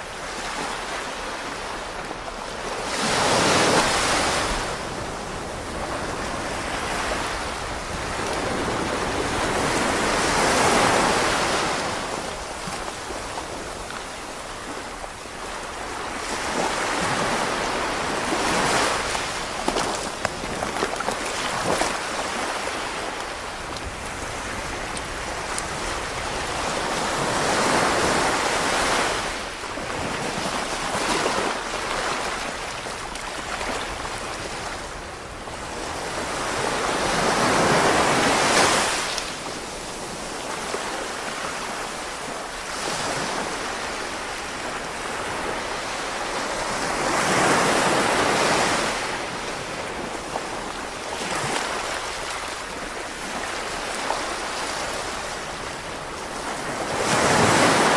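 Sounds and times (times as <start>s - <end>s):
small waves washing ashore: 0.0s - 57.9s.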